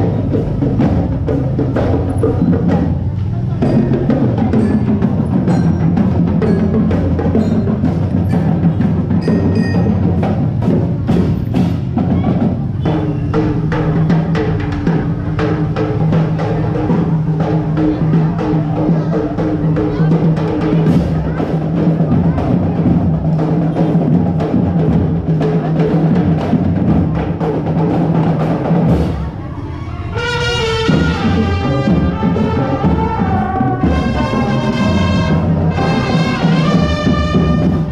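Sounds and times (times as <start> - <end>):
loud music with percussion beat: 0.0 - 37.9.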